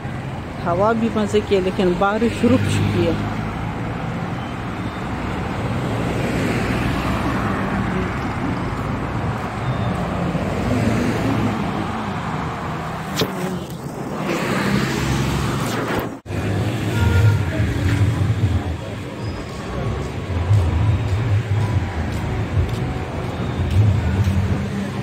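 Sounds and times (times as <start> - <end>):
cars on a wet street: 0.0 - 25.0.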